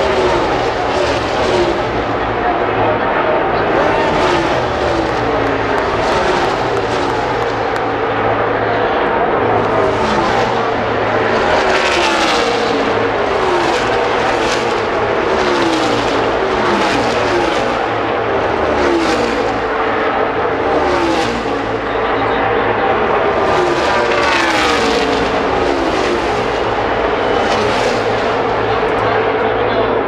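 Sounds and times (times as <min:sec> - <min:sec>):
din of racing engines: 0:00.0 - 0:30.0
race cars passing by: 0:00.0 - 0:30.0.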